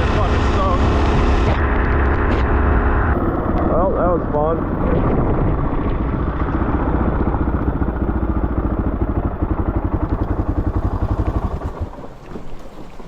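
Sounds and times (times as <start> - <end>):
dirt bike engine idling: 0.0 - 12.4.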